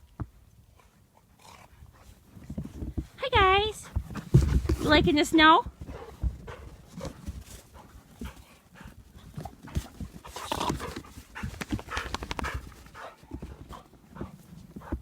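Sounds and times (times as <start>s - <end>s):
dogs panting: 0.6s - 15.0s.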